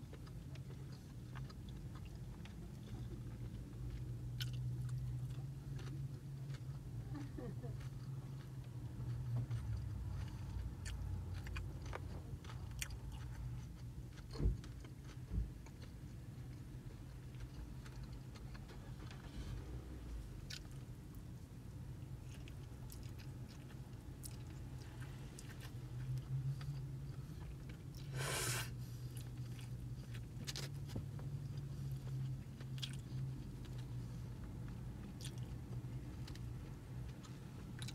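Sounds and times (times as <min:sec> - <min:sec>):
person chewing noodles: 0:00.0 - 0:19.3, 0:20.4 - 0:37.9.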